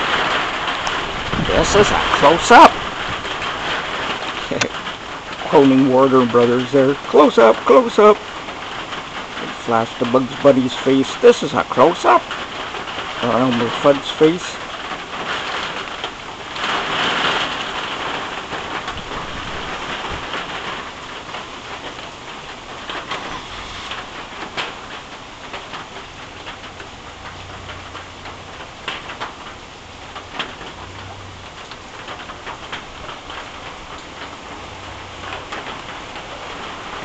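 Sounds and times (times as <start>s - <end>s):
rain on leaves and metal roof: 0.0s - 37.0s.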